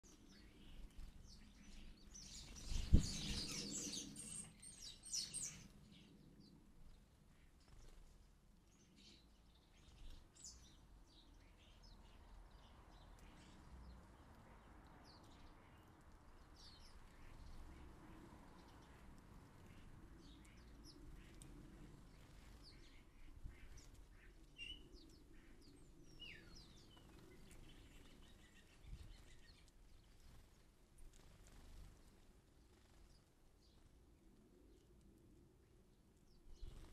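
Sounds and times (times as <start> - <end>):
sparrows chirping: 0.0 - 31.9, 32.5 - 34.0, 35.9 - 36.9.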